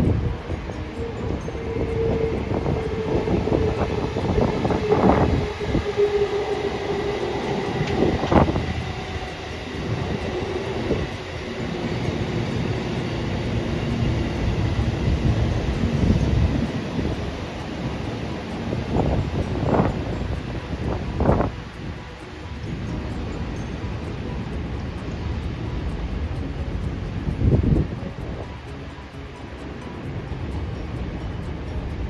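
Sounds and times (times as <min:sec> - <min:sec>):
steady tone: 0:00.0 - 0:32.0
train wheels running: 0:00.0 - 0:32.0.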